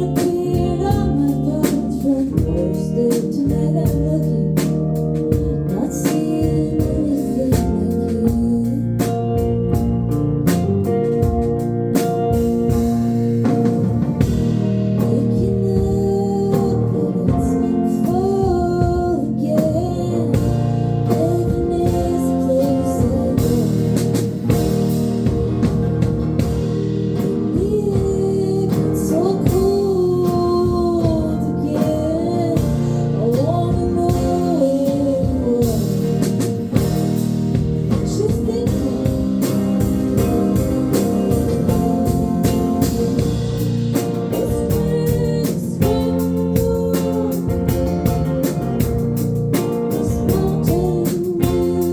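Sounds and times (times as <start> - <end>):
person singing: 0.0 - 9.5, 14.4 - 24.9, 27.2 - 37.2, 37.9 - 48.9, 49.6 - 51.9
drums: 0.0 - 51.9
electric guitar: 0.0 - 51.9
keyboard chords: 0.0 - 51.9.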